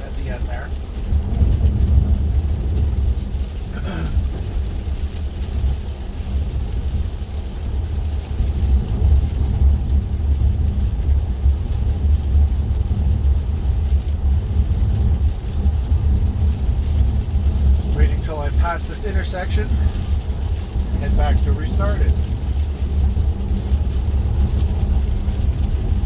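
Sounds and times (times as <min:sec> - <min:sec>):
tyre and road rumble: 0:00.0 - 0:26.0.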